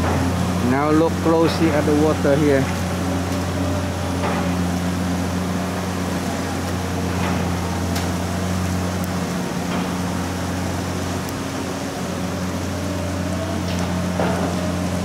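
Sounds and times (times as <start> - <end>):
engine humming: 0.0 - 15.0
floodwater rushing: 0.0 - 15.0.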